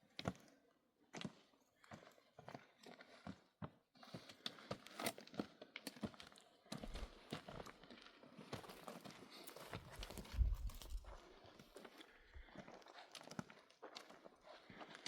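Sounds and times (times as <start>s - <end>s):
faint footfalls on stony ground: 1.1s - 15.0s.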